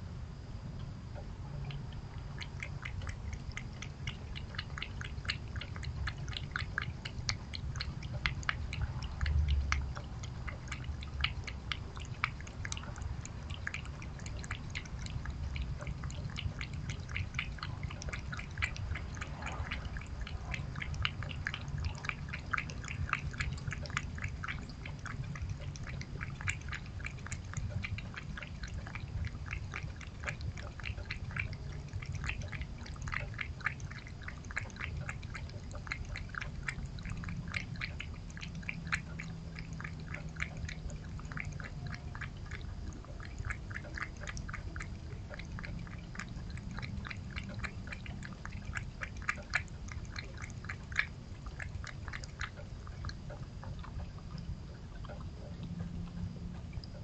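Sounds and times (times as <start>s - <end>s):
low steady hum: 0.0s - 57.0s
cat lapping liquid: 0.8s - 57.0s.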